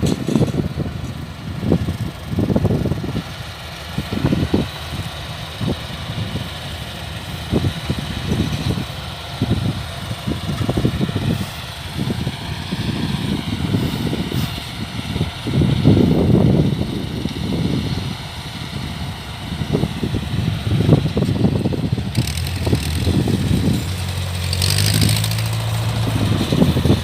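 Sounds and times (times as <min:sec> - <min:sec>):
combine harvester machinery whine: 0:00.0 - 0:27.0
low rumbles: 0:00.0 - 0:27.0.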